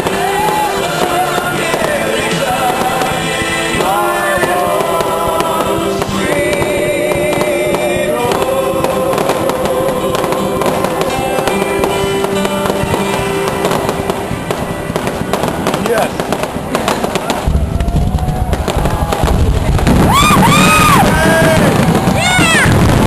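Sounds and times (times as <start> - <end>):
fireworks popping and crackling: 0.0 - 23.0.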